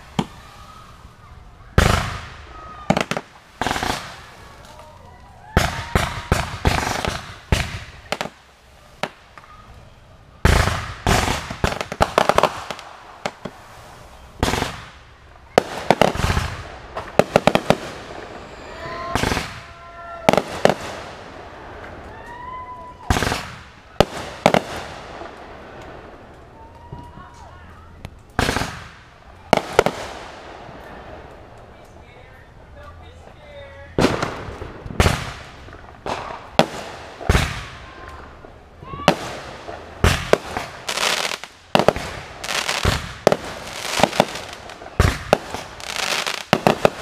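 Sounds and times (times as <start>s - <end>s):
fireworks crackling: 0.0s - 47.0s
fireworks sharp bangs: 0.0s - 47.0s.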